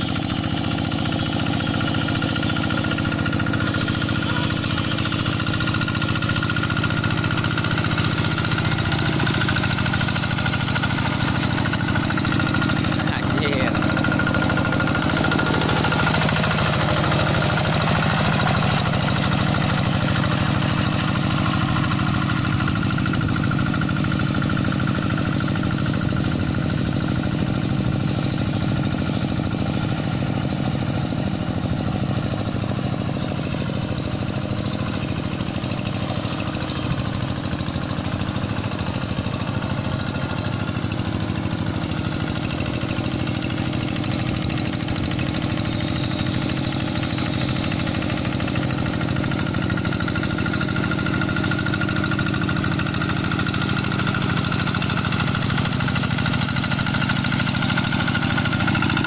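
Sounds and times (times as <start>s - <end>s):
tractor diesel engine chugging: 0.0s - 59.0s.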